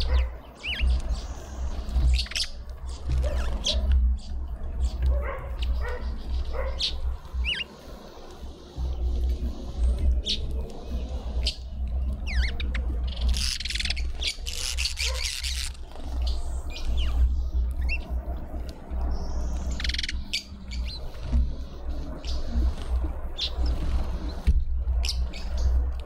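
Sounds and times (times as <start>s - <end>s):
low rumble: 0.0s - 26.0s
small birds chirping: 0.0s - 26.0s.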